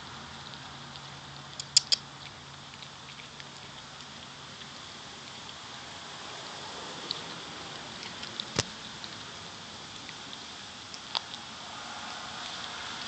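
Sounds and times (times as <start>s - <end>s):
cat chewing bone: 0.1s - 13.0s.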